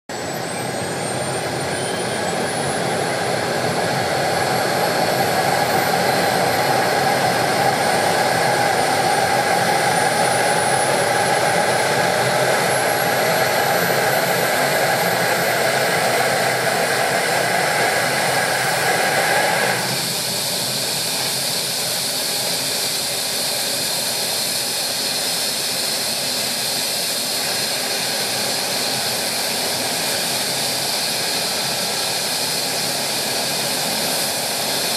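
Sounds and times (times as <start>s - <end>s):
helicopter turbine engine starting: 0.1s - 34.9s.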